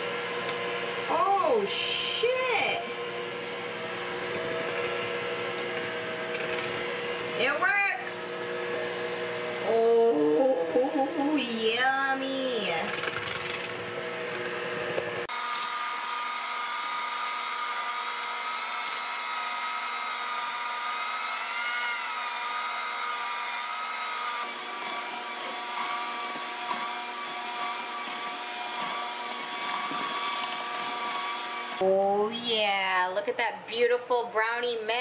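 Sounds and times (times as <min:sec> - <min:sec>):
electric hand mixer whine: 0:00.0 - 0:31.8.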